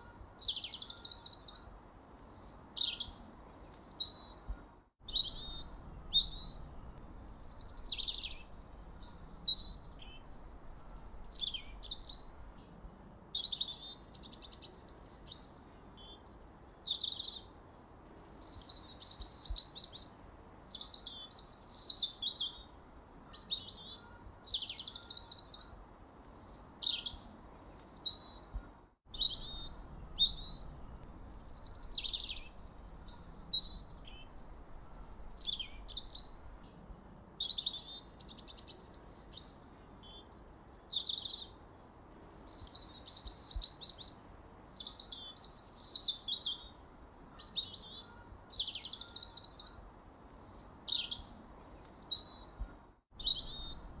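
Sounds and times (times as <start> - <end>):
faint background hiss: 0.0 - 54.0
songbirds chirping and trilling: 0.0 - 54.0.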